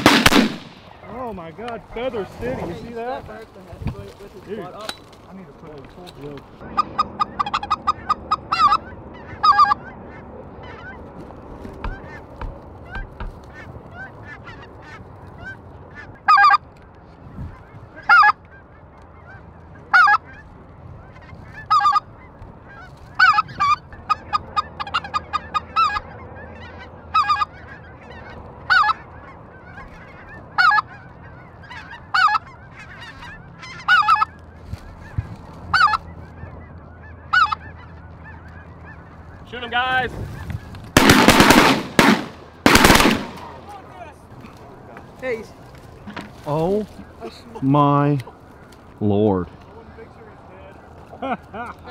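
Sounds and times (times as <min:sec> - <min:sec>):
geese honking: 0:06.2 - 0:51.9.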